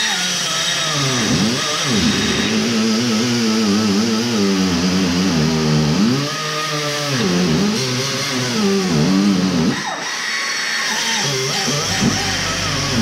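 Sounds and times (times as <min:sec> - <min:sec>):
angle grinder cutting: 0:00.0 - 0:13.0.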